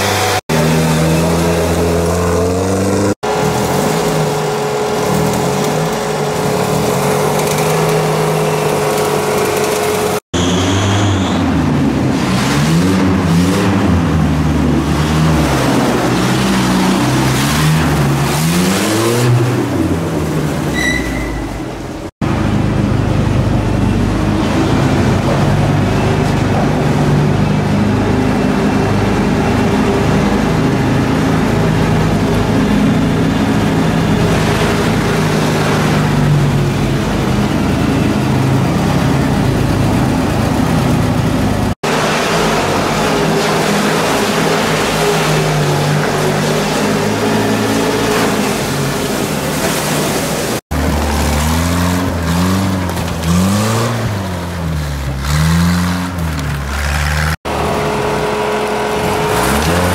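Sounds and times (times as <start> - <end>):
engine revving: 0.0 - 20.7, 24.0 - 59.9
off-road vehicle engine driving: 0.0 - 59.9.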